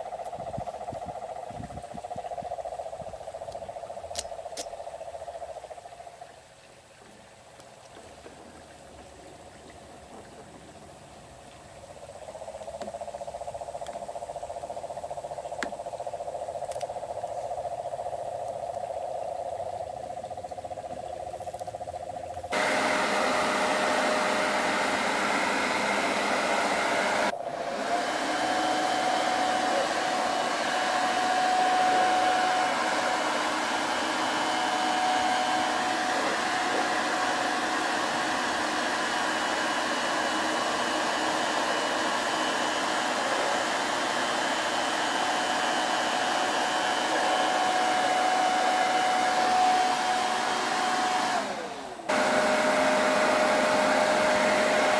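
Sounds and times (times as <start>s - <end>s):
blower rushing with high whine: 0.0s - 4.6s, 11.8s - 54.9s.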